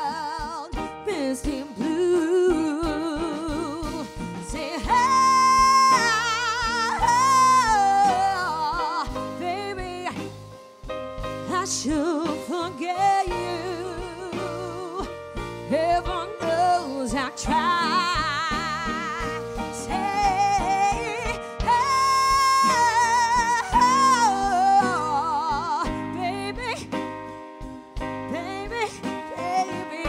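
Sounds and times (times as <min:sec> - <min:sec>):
woman singing with vibrato: 0:00.0 - 0:10.3, 0:11.5 - 0:26.9, 0:28.3 - 0:30.0
grand piano accompaniment: 0:00.0 - 0:30.0.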